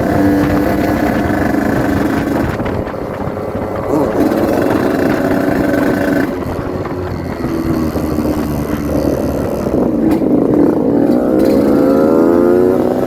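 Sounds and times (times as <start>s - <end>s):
two-stroke motorcycle engine: 0.0s - 13.0s
wind buffeting microphone: 0.0s - 13.0s.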